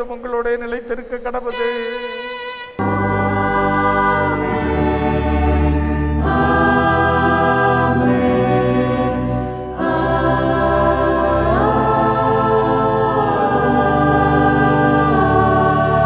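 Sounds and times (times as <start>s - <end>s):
choir singing held chords: 1.5s - 16.0s.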